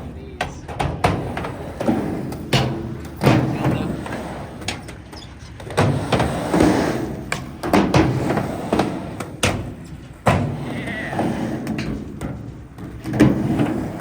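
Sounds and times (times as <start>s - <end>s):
skateboard wheels rolling: 0.0s - 14.0s
skateboards clacking on ground: 0.0s - 14.0s.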